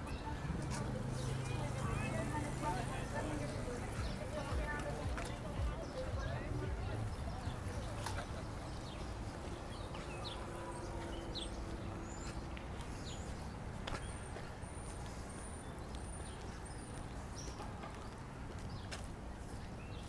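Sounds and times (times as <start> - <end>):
low hum of city background: 0.0 - 20.0.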